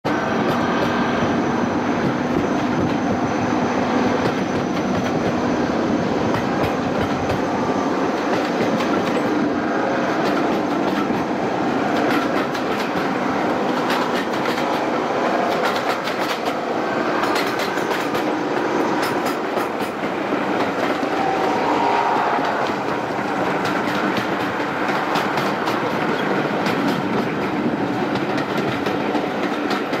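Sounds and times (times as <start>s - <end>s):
locomotive engines droning: 0.1s - 30.0s.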